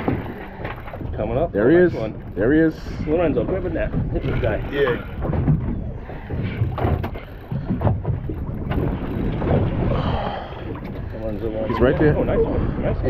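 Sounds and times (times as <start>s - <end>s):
boat rumble: 0.0s - 13.0s
wind buffeting microphone: 0.0s - 13.0s.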